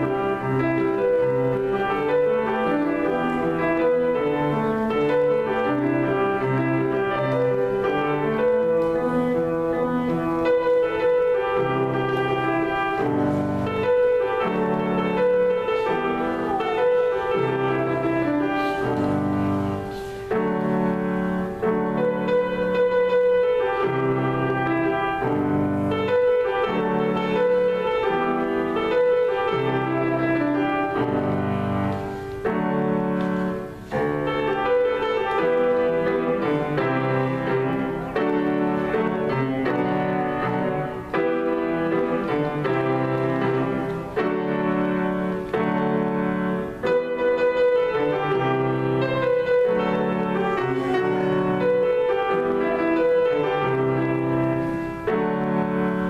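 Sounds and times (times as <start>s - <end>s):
solo grand piano chords: 0.0s - 56.0s.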